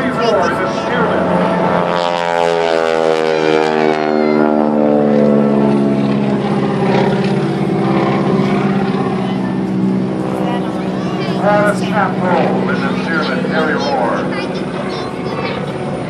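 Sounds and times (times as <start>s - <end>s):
propeller airplane flying past: 0.0s - 16.0s.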